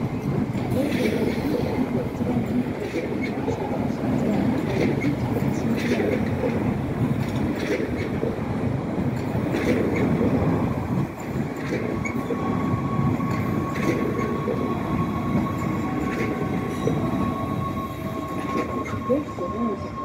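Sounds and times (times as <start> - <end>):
rail clacks: 0.0 - 20.0
train wheels rumbling on rails: 0.0 - 20.0.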